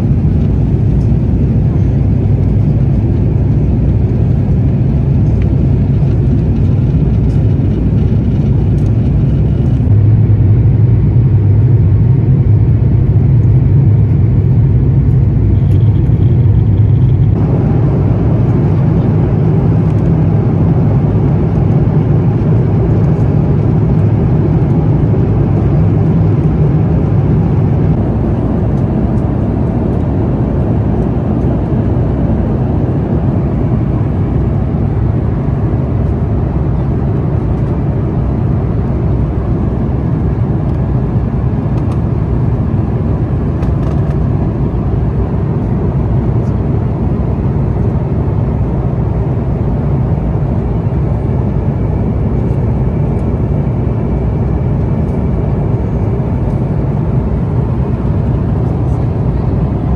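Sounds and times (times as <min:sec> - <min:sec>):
airplane cabin engine and airflow noise: 0:00.0 - 0:59.9.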